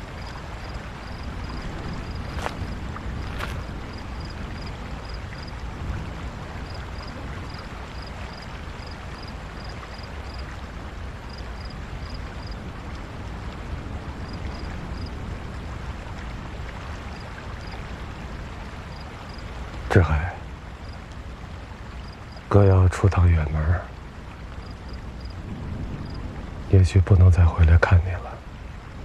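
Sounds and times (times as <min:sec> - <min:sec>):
rushing outdoor ambience: 0:00.0 - 0:29.0.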